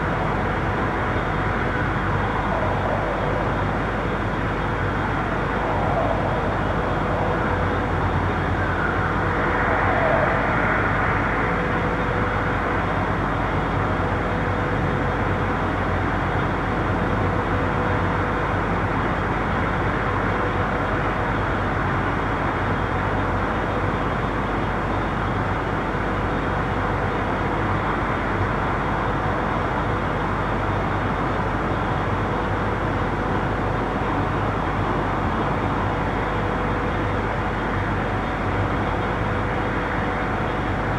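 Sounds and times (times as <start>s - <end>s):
busy road traffic: 0.0s - 40.9s.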